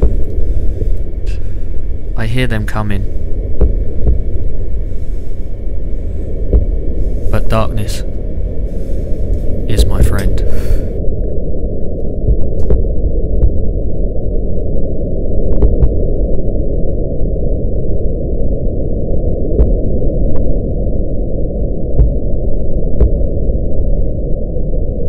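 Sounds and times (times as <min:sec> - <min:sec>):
loud low rumble: 0:00.0 - 0:25.0.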